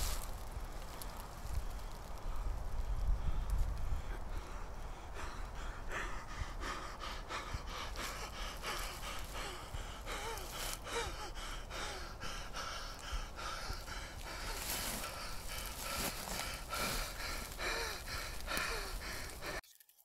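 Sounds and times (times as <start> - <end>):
man gasping for breath: 2.2 - 19.6.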